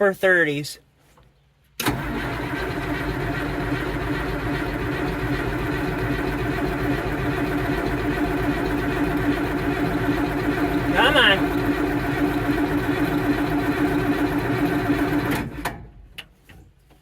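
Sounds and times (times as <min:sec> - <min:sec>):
tractor starter cranking: 0:01.8 - 0:15.9.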